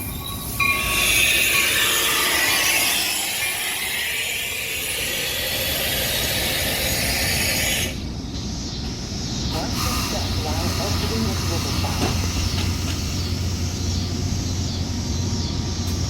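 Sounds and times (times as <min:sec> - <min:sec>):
train hissing rush: 0:00.0 - 0:16.0.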